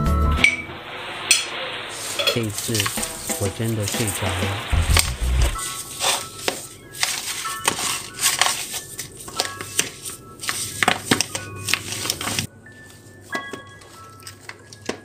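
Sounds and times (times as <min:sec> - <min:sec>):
light background music: 0:02.4 - 0:15.0.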